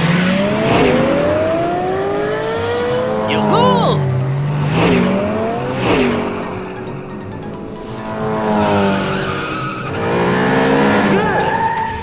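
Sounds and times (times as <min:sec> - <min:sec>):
background music: 0:00.0 - 0:12.0
cartoon race car engine revving: 0:00.0 - 0:12.0.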